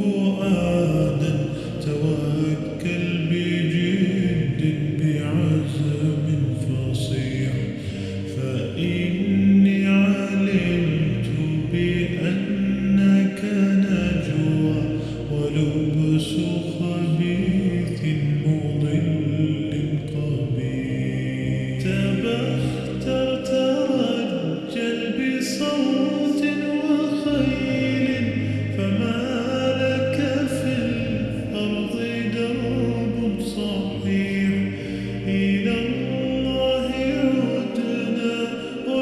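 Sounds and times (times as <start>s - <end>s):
layered voices singing with reverb: 0.0s - 39.0s.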